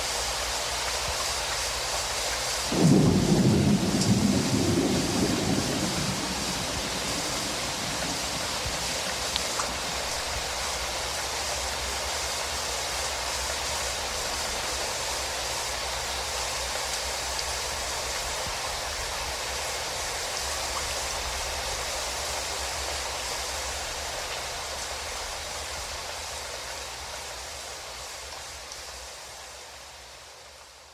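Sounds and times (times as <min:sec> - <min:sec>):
turbulent river water rushing: 0:00.0 - 0:26.3.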